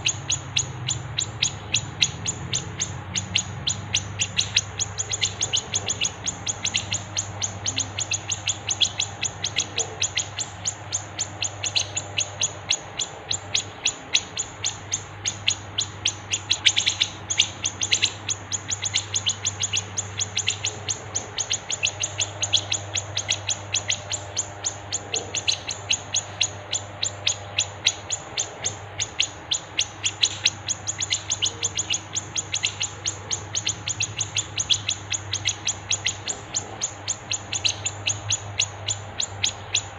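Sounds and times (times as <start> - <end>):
faint low hum: 0.0 - 39.9
songbirds chirping: 0.0 - 39.9.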